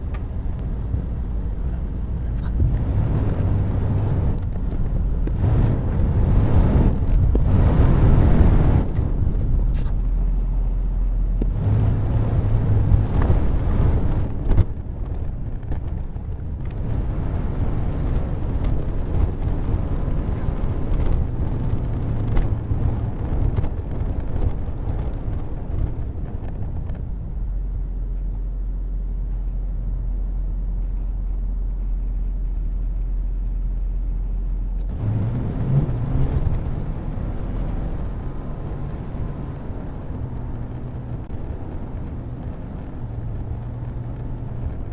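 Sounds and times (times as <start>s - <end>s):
bright road noise: 0.0s - 44.9s
deep engine and road rumble: 0.0s - 44.9s.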